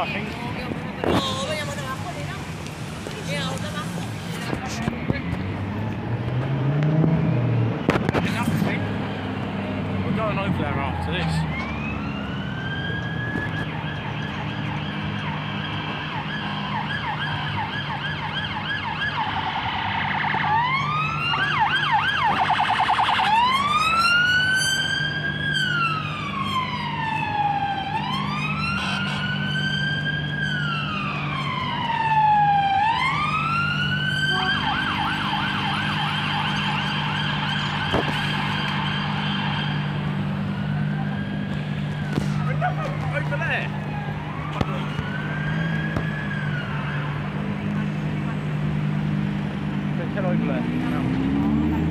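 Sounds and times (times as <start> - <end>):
emergency vehicle sirens: 0.0 - 51.9
traffic engine hum: 0.0 - 51.9.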